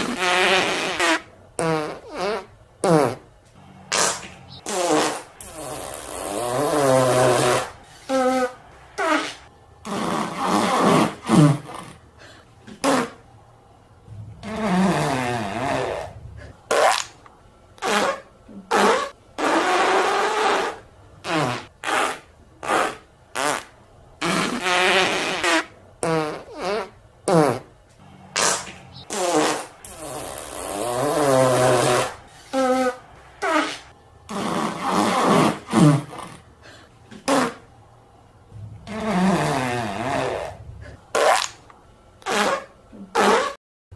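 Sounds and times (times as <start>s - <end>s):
fart sound effects: 0.0s - 12.0s, 12.7s - 13.2s, 14.1s - 17.2s, 17.8s - 36.4s, 37.1s - 37.7s, 38.5s - 43.6s.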